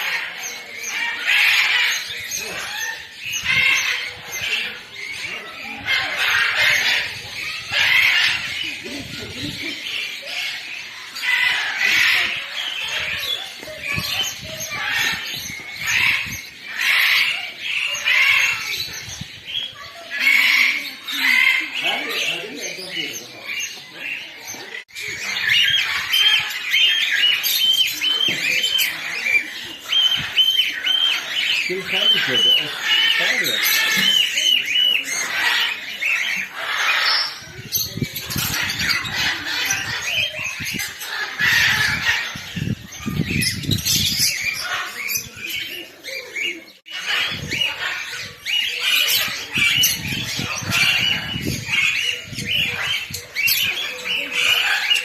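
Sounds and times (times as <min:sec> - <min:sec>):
bird calling: 0:00.0 - 0:55.0
chickens clucking and squawking: 0:00.0 - 0:55.0.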